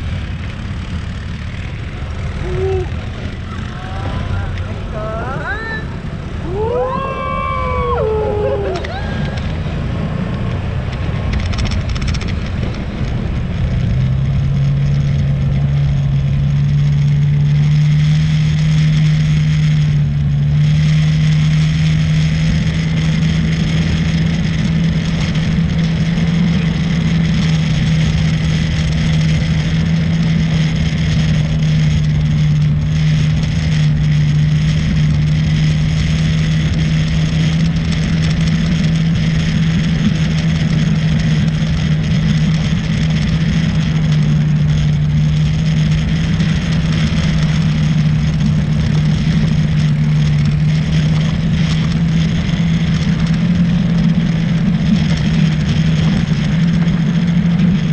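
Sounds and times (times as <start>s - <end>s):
atv engine running: 0.0s - 57.9s
wind rushing over microphone: 0.0s - 57.9s.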